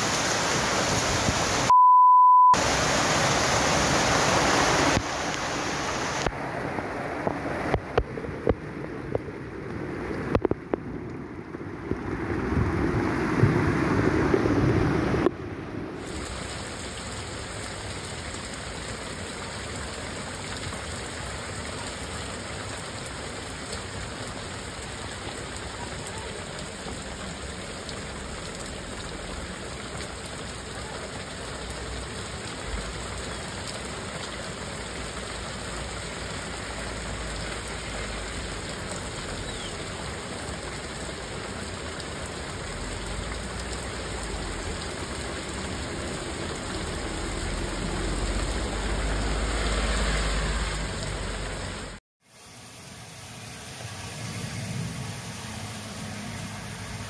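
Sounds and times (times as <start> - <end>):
torrential rain pouring: 0.0 - 1.7, 2.6 - 57.0
car driving through floodwater: 2.6 - 52.0, 53.6 - 57.0.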